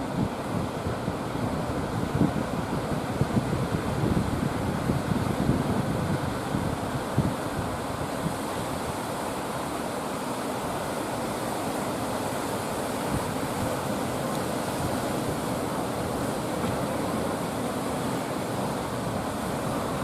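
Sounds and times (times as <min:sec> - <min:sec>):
sea surf: 0:00.0 - 0:20.0
wind: 0:00.0 - 0:20.0.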